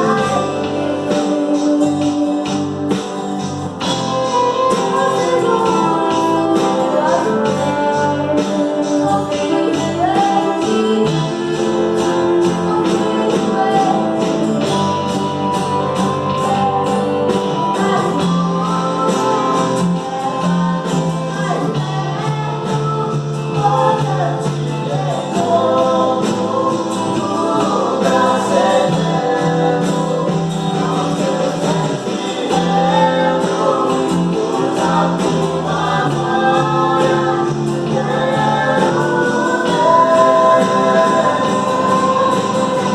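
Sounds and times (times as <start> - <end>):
person singing: 0.0 - 42.9
strummed acoustic guitar: 0.0 - 42.9.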